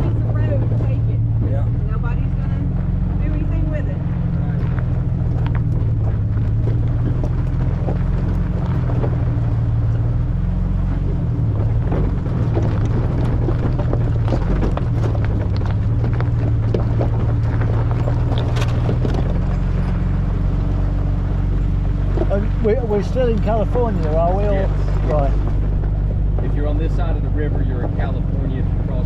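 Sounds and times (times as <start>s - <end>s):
car engine running: 0.0s - 29.0s
knocks and rattles on rough track: 0.0s - 29.0s.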